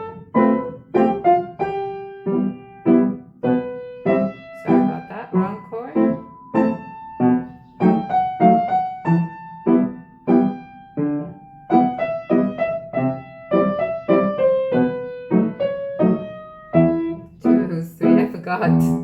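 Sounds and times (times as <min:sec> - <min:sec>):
slow piano piece: 0:00.0 - 0:19.0.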